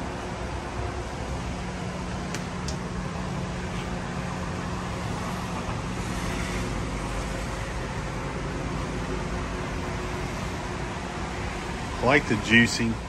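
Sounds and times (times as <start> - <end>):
constant low hum: 0.0 - 13.0
highway traffic noise: 0.0 - 13.0.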